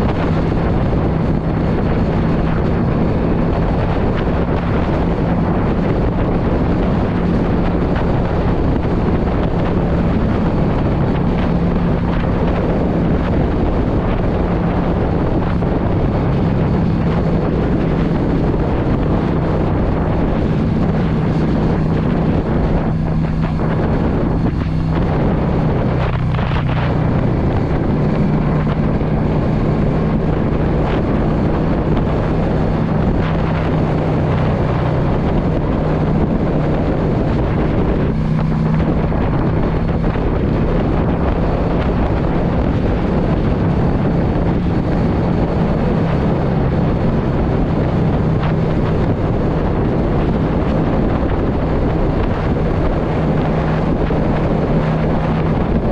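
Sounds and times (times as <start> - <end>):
motorcycle engine cruising: 0.0 - 55.9
wind rushing over microphone: 0.0 - 55.9.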